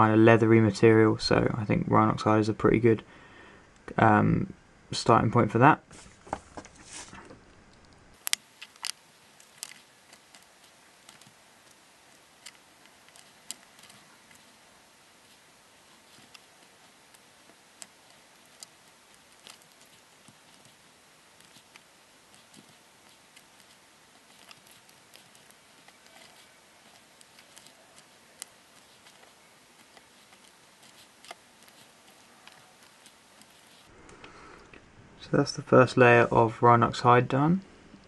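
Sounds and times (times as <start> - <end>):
low hiss: 0.0 - 38.0.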